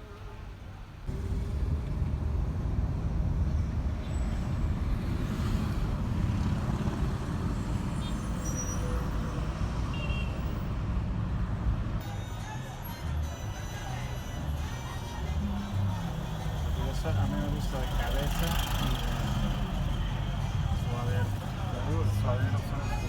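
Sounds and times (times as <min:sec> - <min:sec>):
city street traffic: 0:00.0 - 0:23.0
heavy vehicle engine rumbling: 0:01.0 - 0:23.0.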